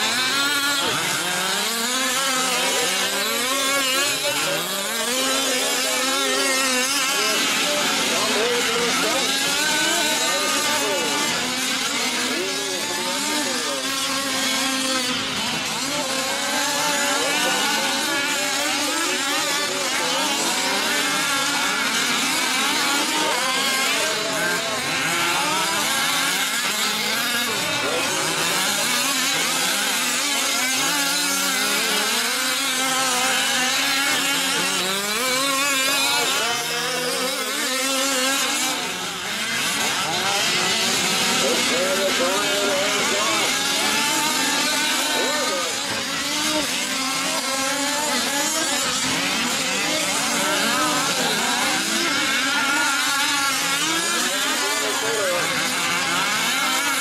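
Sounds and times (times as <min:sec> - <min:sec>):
small two-stroke engines revving: 0:00.0 - 0:57.0.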